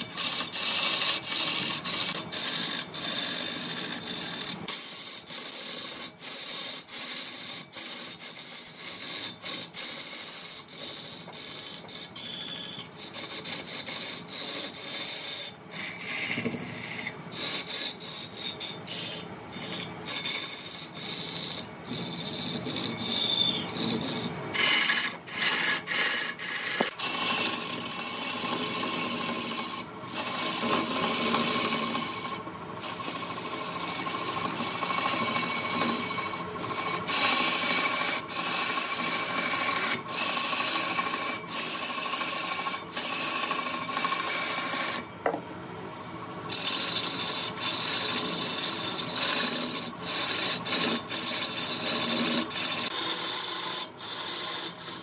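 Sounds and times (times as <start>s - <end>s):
tool scraping wood on lathe: 0.0s - 55.0s.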